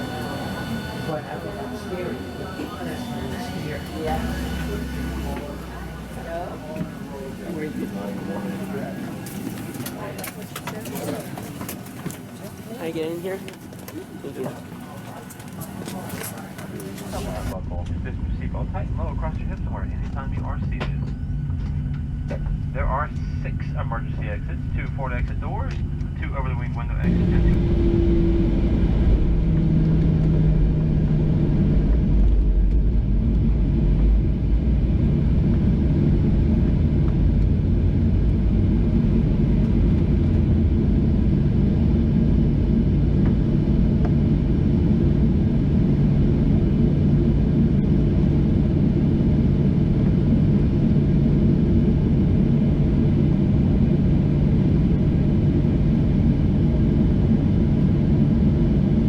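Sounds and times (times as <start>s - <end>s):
airplane engines rumbling: 0.0s - 59.0s.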